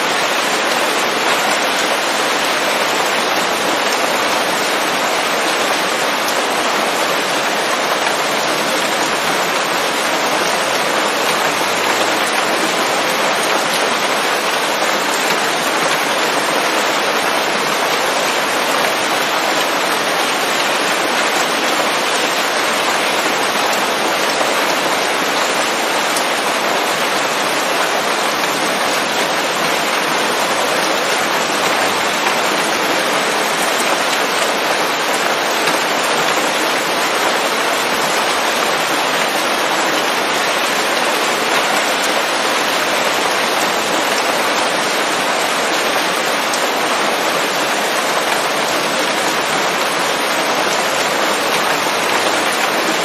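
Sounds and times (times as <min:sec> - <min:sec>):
rain pattering on leaves: 0:00.0 - 0:53.0.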